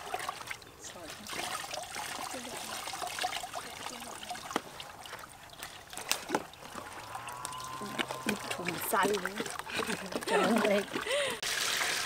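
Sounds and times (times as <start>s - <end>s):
water poured into steel bowl: 0.0s - 12.0s.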